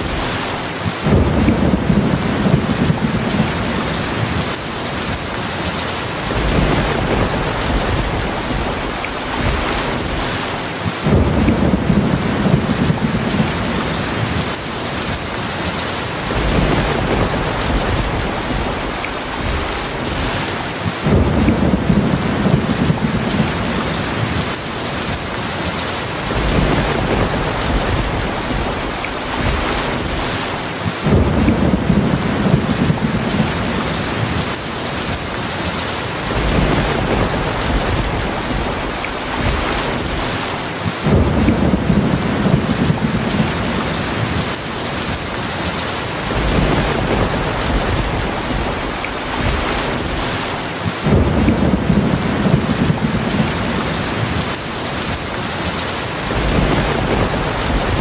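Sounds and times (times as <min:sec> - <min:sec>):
heavy rain hiss: 0:00.0 - 0:58.0
low thunder rolling: 0:01.0 - 0:05.1, 0:06.2 - 0:10.4, 0:11.0 - 0:15.1, 0:16.2 - 0:25.1, 0:26.2 - 0:35.1, 0:36.2 - 0:40.4, 0:41.0 - 0:45.1, 0:46.2 - 0:55.1, 0:56.1 - 0:58.0.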